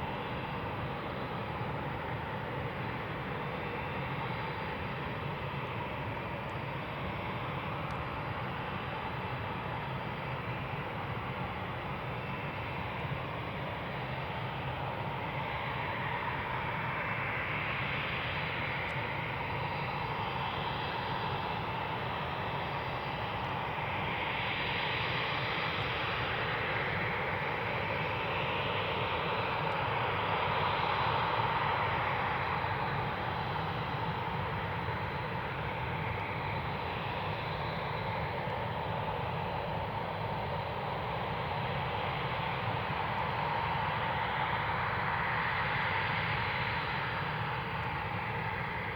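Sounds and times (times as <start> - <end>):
jet engine whine and rush: 0.0 - 48.9.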